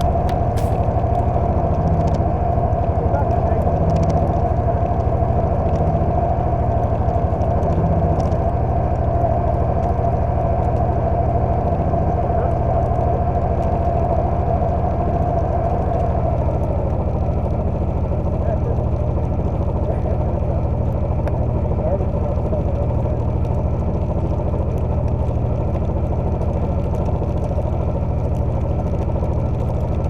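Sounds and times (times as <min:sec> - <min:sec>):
snowplow engine running steadily: 0:00.0 - 0:30.0.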